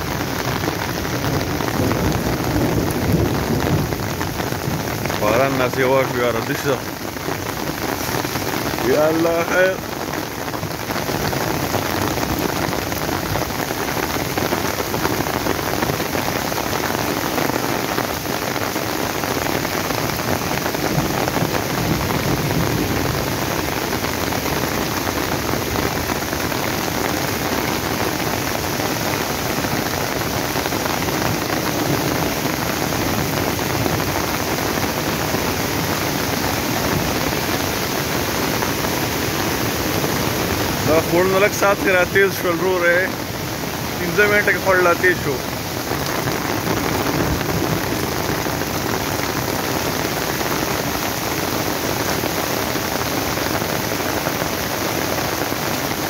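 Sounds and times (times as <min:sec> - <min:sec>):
falling rain hiss: 0:00.0 - 0:56.0
stream rushing over boulders: 0:00.0 - 0:56.0.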